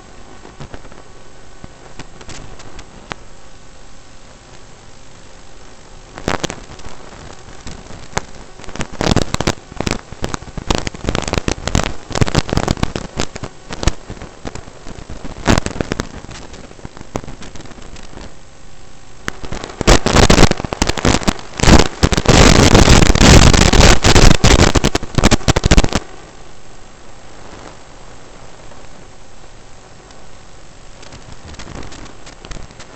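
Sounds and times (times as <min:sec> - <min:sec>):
radio static crackling and hissing: 0:00.0 - 0:32.9.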